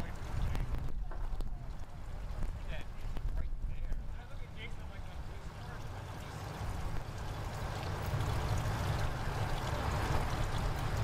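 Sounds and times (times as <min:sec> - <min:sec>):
low steady rumble: 0:00.0 - 0:11.0
water pouring and gurgling: 0:00.0 - 0:11.0.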